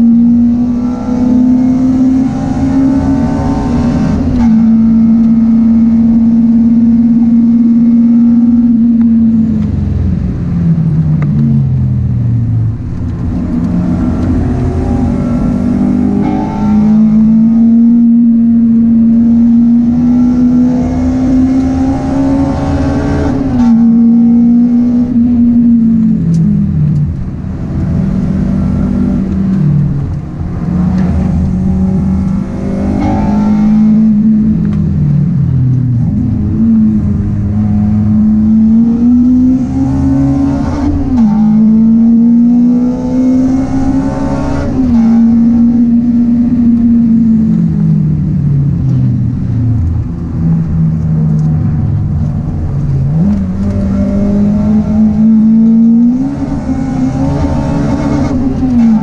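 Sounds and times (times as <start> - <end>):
car engine under hard acceleration: 0.0 - 59.0.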